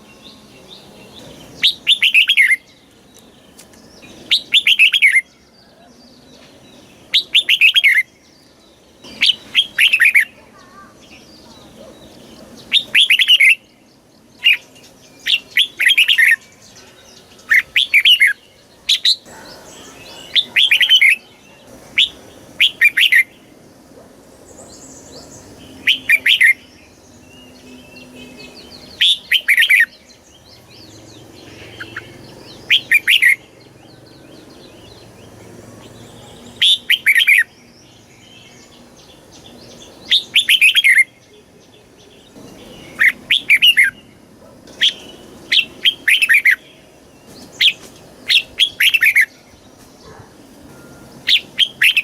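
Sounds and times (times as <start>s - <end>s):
bulbul singing whistled notes: 0.0s - 10.4s, 12.1s - 23.4s, 24.5s - 44.2s, 50.7s - 52.0s.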